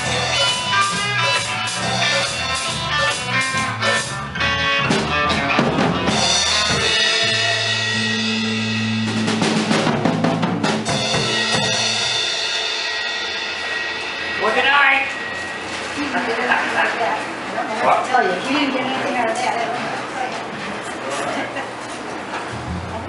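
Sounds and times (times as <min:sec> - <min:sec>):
live band playing amplified music: 0:00.0 - 0:23.0.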